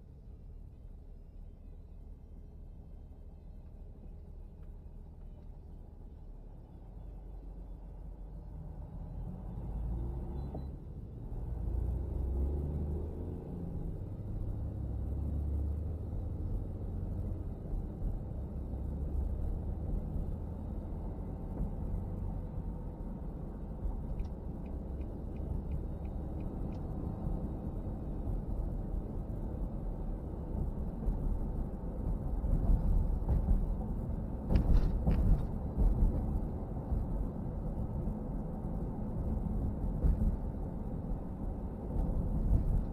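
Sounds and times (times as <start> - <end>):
car engine rumble: 0.0 - 42.9
tyres on road: 0.0 - 42.9.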